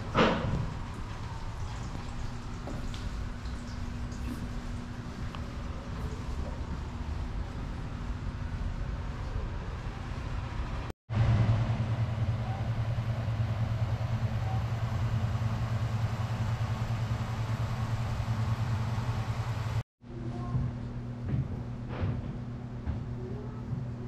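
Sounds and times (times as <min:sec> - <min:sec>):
motor idling hum: 0:00.6 - 0:19.8.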